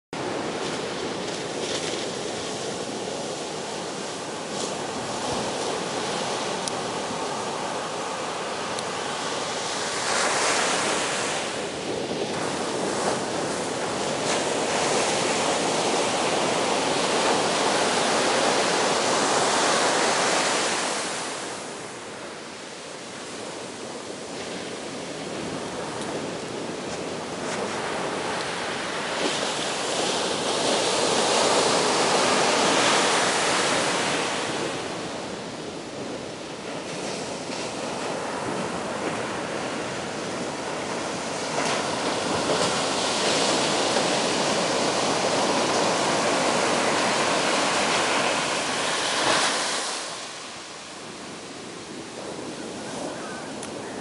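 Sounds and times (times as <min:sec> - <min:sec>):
ocean waves breaking: 0:00.2 - 0:54.0.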